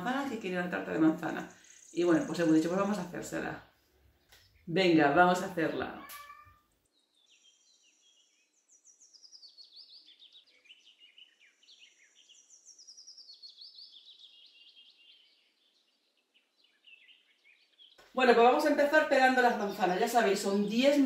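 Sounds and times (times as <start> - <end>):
small bird singing: 0.0 - 21.0.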